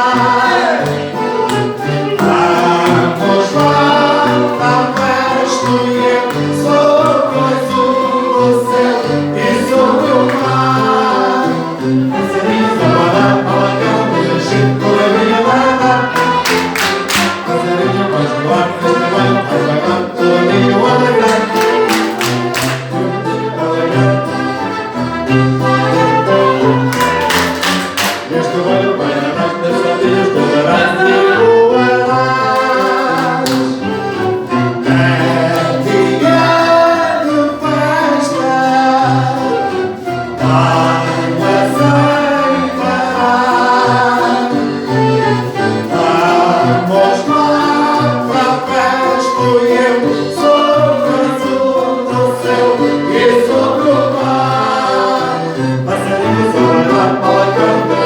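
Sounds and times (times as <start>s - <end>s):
person singing: 0.0s - 58.0s.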